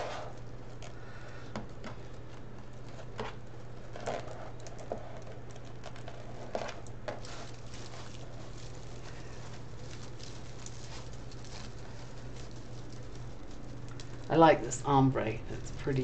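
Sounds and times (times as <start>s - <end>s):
mesh rustling and crinkling: 1.6s - 16.0s.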